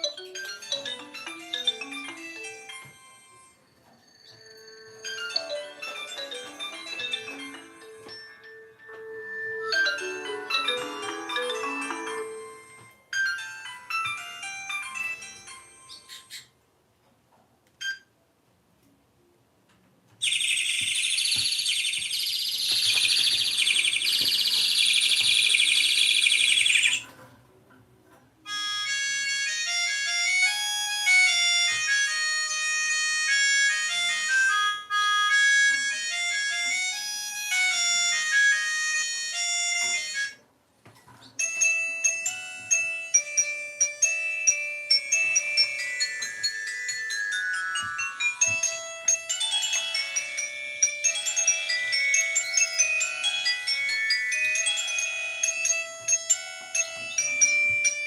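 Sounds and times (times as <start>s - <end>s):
electronic melody ringtone: 0.0s - 16.4s, 20.2s - 27.1s, 28.5s - 40.4s, 41.4s - 58.0s
warbling electronic ringtone: 0.0s - 16.4s, 20.2s - 27.1s, 28.5s - 40.4s, 41.4s - 58.0s.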